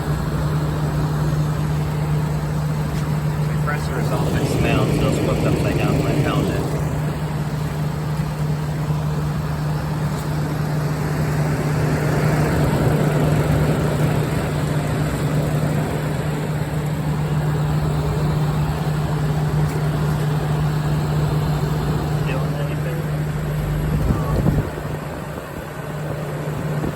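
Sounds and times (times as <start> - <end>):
air conditioner compressor hum: 0.0 - 26.9
fan rushing: 0.0 - 26.9.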